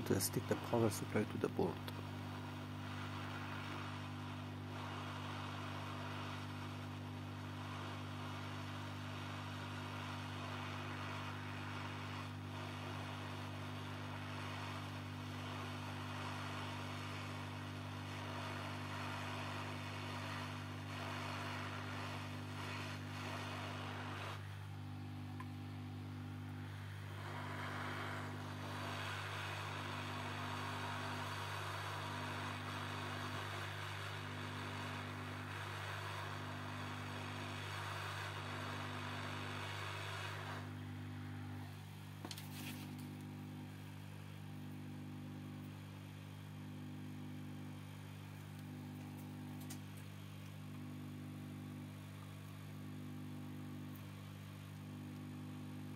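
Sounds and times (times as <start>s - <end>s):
hot-air gun blowing: 0.0s - 44.9s.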